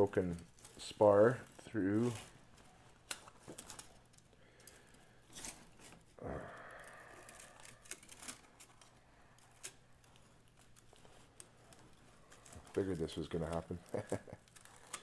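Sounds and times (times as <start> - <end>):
scraping and rustling of fabric: 0.0 - 6.2, 7.2 - 15.0.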